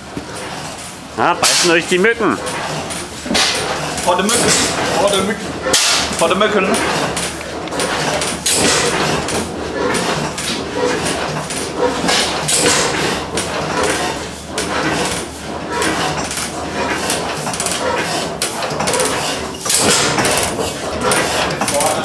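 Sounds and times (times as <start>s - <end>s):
valve gear clatter: 0.3s - 22.0s.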